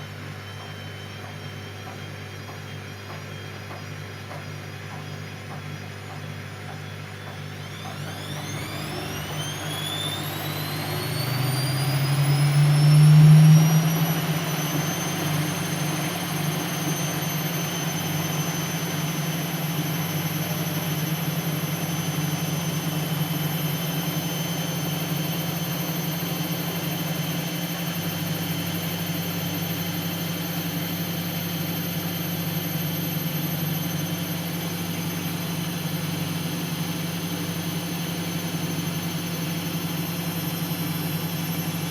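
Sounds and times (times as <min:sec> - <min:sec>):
washing machine spinning: 0:00.0 - 0:41.9.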